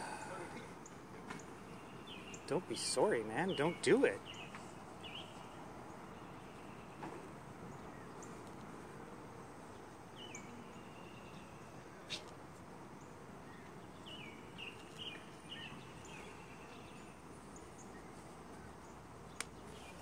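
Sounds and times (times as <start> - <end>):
outdoor background noise: 0.0 - 20.0
small birds chirping: 0.1 - 8.7, 9.6 - 12.4, 13.0 - 20.0.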